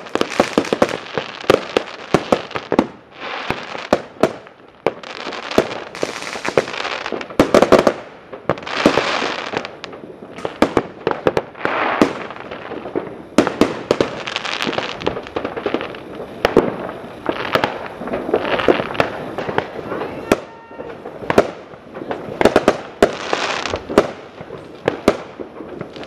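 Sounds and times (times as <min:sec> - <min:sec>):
firework bangs: 0:00.0 - 0:26.0
hissing crackle of fireworks: 0:00.0 - 0:26.0.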